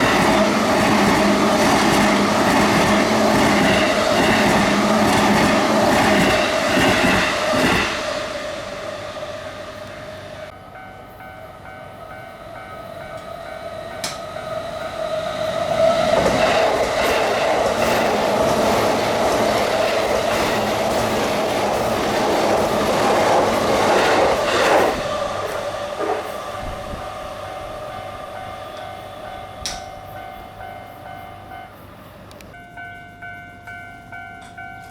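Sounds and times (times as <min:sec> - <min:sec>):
train wheels clattering on rails: 0:00.0 - 0:08.9, 0:13.0 - 0:34.9.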